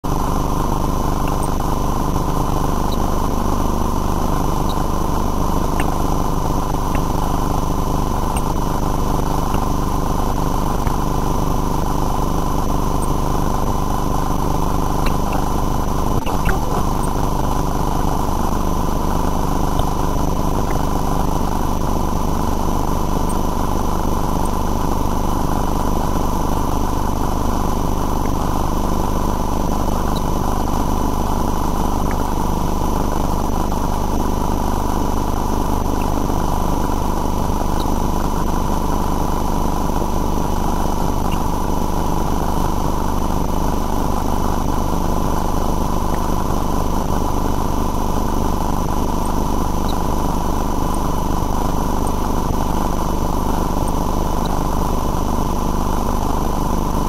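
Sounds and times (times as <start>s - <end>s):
high-pitched whine: 0.1s - 57.0s
mechanical drone: 0.1s - 57.0s.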